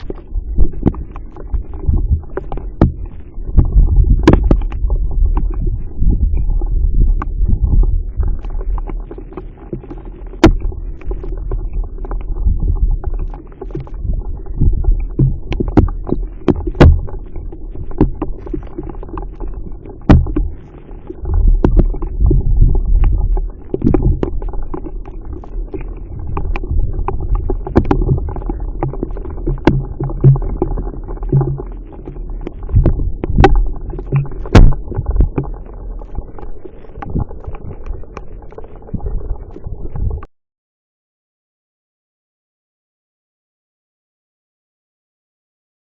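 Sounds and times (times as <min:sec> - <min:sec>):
raindrops tapping near microphone: 0:00.0 - 0:20.6, 0:21.2 - 0:40.3
steady low rumble: 0:00.0 - 0:40.3.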